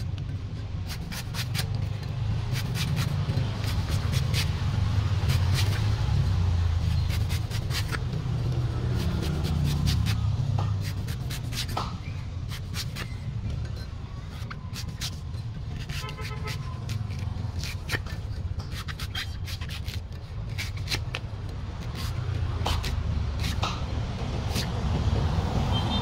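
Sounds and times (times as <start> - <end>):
cleaver chopping coconut husk: 0.0 - 26.0.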